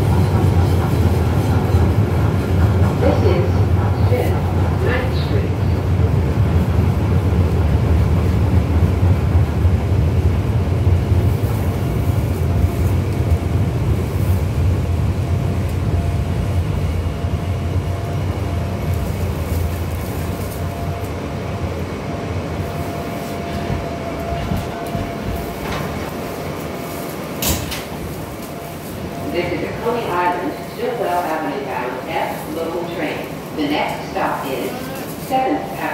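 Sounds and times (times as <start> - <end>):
subway wheels rumbling on rail: 0.0 - 35.9.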